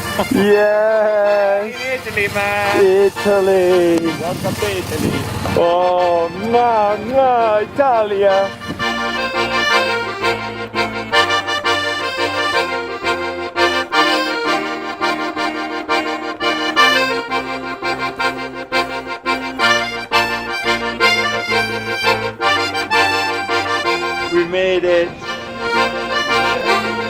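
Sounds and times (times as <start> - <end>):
accordion playing lively tune: 0.0 - 27.0.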